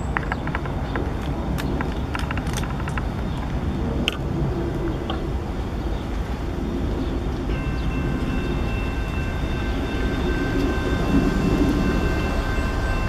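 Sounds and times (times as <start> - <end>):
diesel locomotive engine rumble: 0.0 - 13.0.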